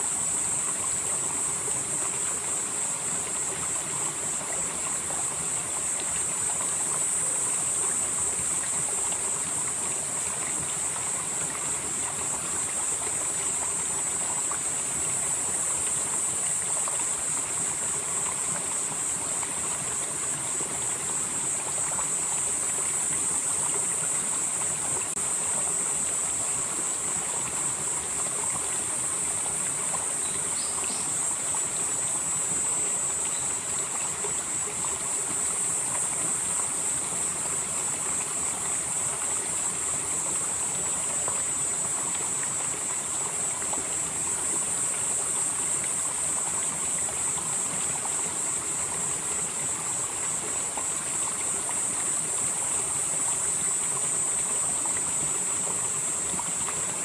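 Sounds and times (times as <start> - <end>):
high-pitched insect chorus: 0.0 - 56.5
stream flowing: 0.0 - 57.0.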